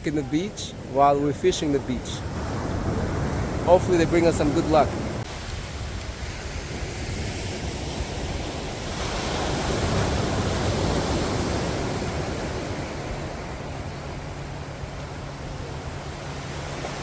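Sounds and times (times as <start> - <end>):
ocean surf breaking on beach: 0.0 - 17.0.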